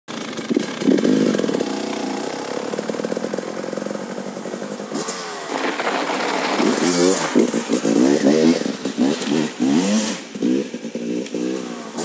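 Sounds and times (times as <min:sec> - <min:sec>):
two-stroke engine idling: 0:00.1 - 0:12.0.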